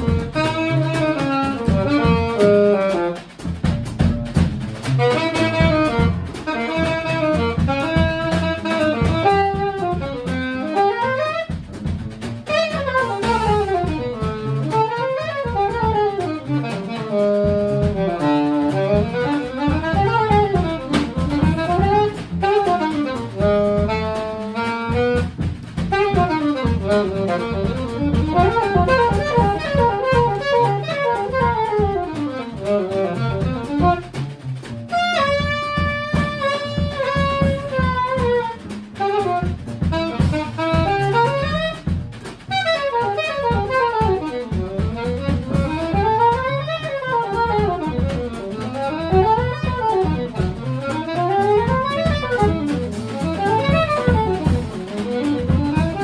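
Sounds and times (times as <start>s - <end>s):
drum kit: 0.0s - 56.0s
plucked double bass: 0.0s - 56.0s
saxophone solo: 0.0s - 56.0s.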